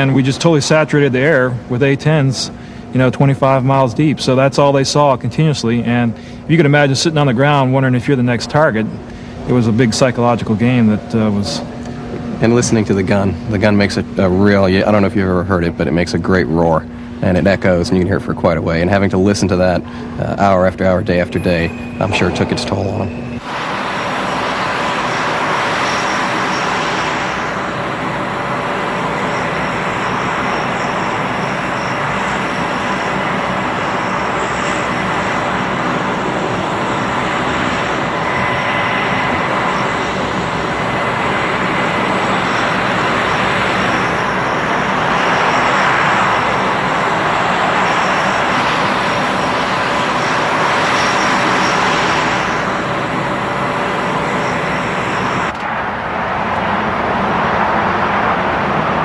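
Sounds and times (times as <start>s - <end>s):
jet engines roaring and whining: 0.0s - 59.0s.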